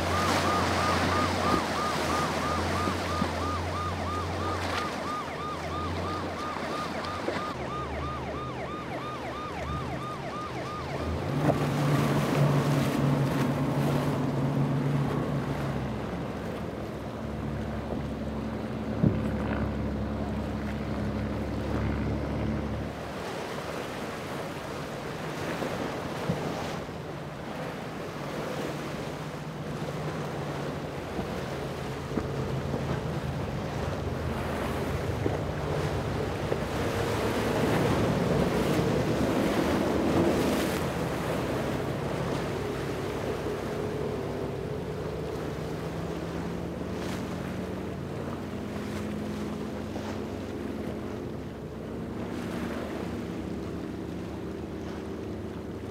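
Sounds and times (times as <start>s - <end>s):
waves and spray crashing: 0.0s - 7.9s, 9.7s - 19.6s, 22.8s - 55.8s
powerboat engines running: 0.0s - 55.9s.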